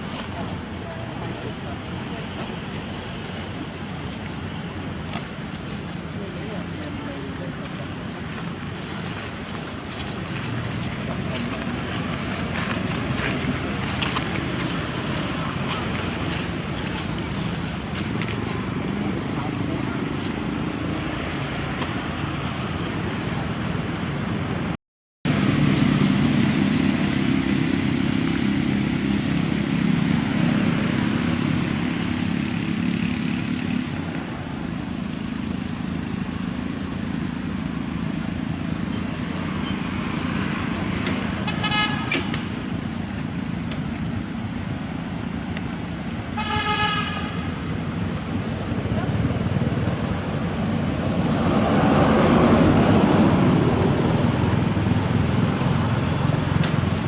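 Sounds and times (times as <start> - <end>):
high-pitched hiss: 0.0 - 57.0
road traffic: 0.0 - 57.0.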